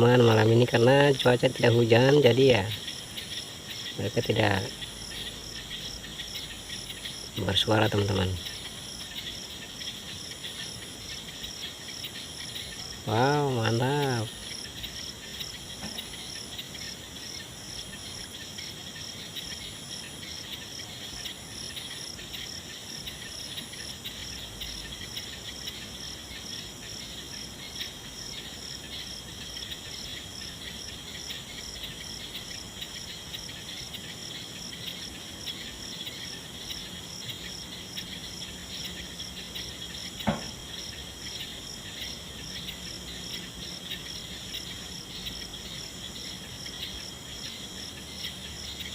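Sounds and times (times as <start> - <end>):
high insect trill: 0.0 - 48.9
insects chirring: 0.0 - 48.9.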